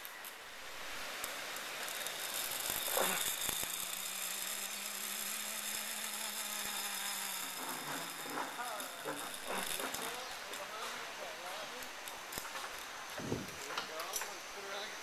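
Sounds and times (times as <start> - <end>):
zip line pulleys whirring on cable: 0.0 - 15.0.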